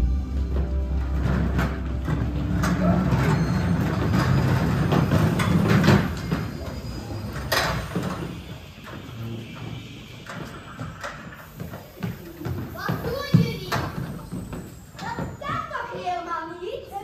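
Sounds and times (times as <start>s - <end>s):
rumbling train over speakers: 0.0s - 16.8s.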